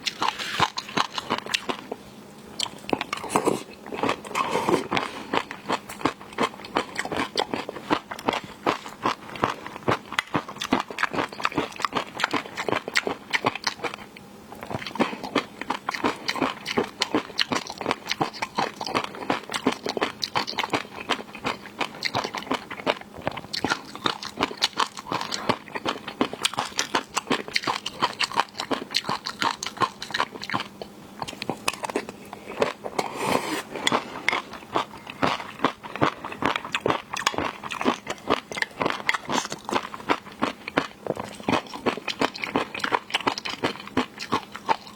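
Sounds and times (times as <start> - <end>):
crunchy chewing of seafood: 0.0 - 44.9.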